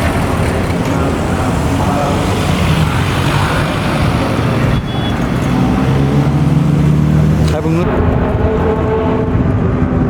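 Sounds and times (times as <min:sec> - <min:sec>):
loud car engine running: 0:00.0 - 0:10.0.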